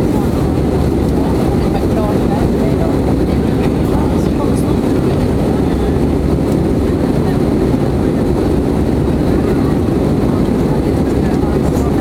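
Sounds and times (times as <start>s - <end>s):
jet engine rumble: 0.0s - 12.0s
rushing air: 0.0s - 12.0s.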